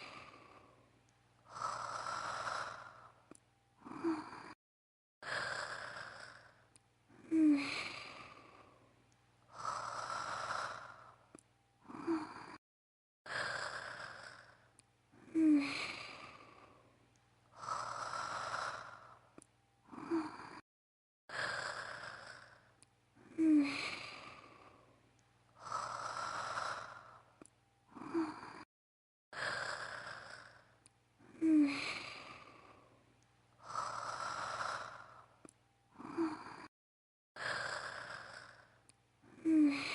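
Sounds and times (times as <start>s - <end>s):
woman snoring with snorts: 0.0s - 0.8s, 1.4s - 4.6s, 5.2s - 8.8s, 9.4s - 12.6s, 13.3s - 16.9s, 17.5s - 20.6s, 21.3s - 24.9s, 25.5s - 28.7s, 29.3s - 33.0s, 33.6s - 36.7s, 37.4s - 39.9s.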